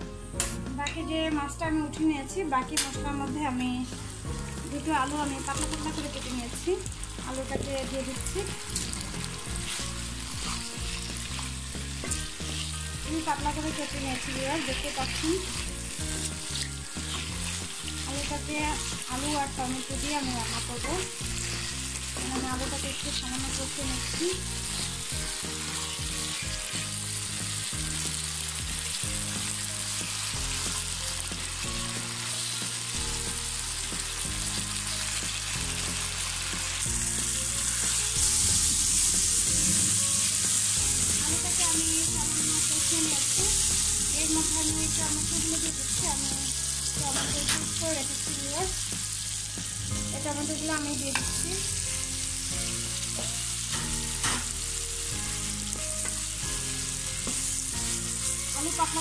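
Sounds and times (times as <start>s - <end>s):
potatoes sizzling in oil: 2.0s - 59.0s
wooden spatula scraping wok: 3.5s - 59.0s.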